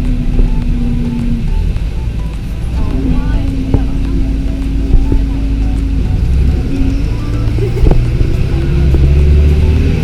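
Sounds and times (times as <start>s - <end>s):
bus engine rumble: 0.0s - 10.0s
music playing: 0.0s - 10.0s.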